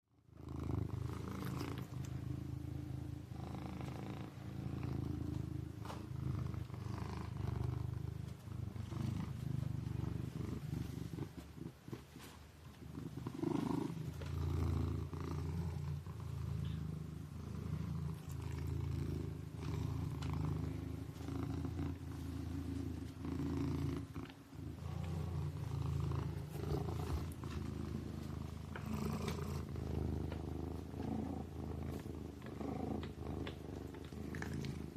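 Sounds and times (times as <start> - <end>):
kitten purring: 0.1 - 34.9.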